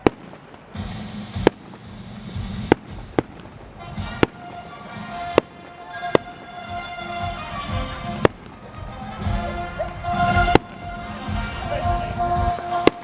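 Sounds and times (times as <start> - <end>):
firework bangs: 0.0 - 13.0
music with held notes: 0.7 - 13.0.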